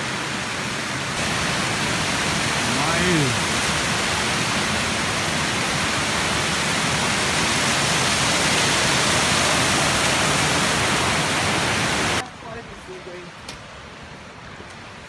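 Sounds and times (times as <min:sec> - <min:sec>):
river cascading over rocks: 0:00.0 - 0:15.0.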